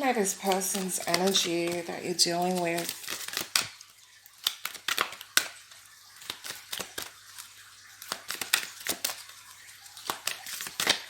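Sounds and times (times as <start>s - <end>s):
cards being shuffled: 0.4s - 3.8s, 4.4s - 11.0s.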